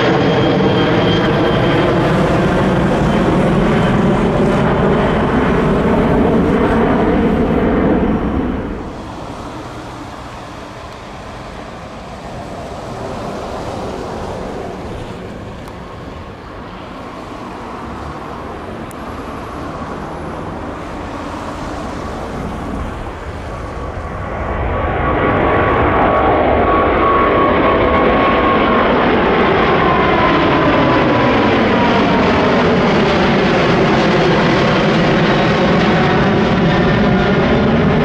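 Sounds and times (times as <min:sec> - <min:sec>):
engine whine sliding lower: 0:00.0 - 0:38.0
jet airliner engines roaring: 0:00.0 - 0:38.0.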